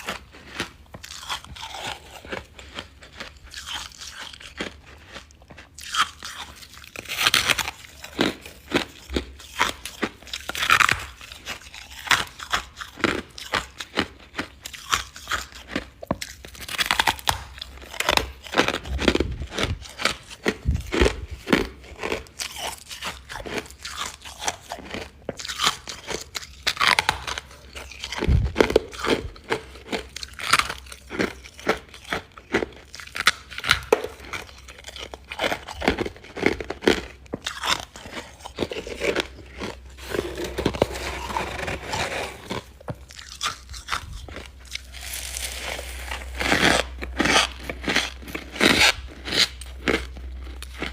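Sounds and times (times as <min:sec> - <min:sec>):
crunching and chewing frost: 0:00.0 - 0:50.9.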